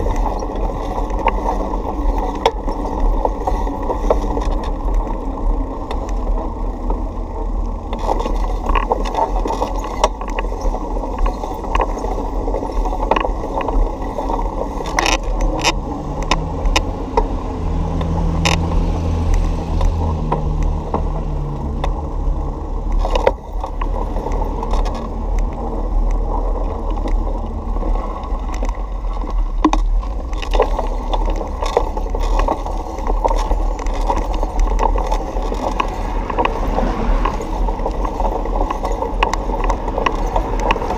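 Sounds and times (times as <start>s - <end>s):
bicycle rattling over bumps: 0.0s - 40.9s
bicycle tyres rumbling on pavement: 0.0s - 40.9s.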